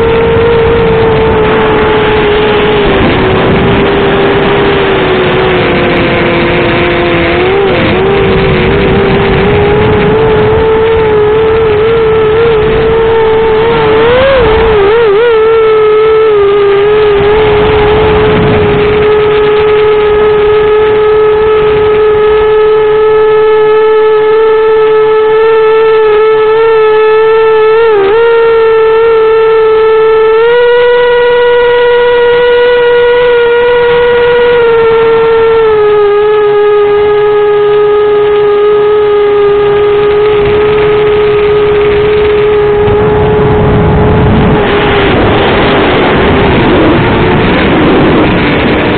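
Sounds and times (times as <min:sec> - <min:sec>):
quadcopter motors whining: 0:00.0 - 0:48.9.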